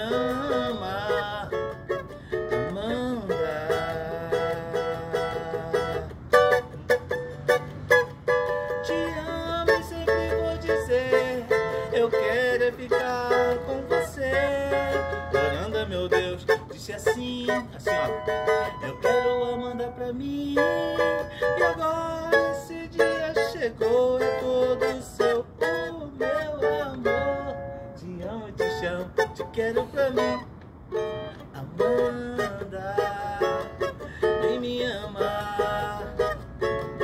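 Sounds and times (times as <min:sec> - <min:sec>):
small guitar strummed rhythmically: 0:00.0 - 0:37.0.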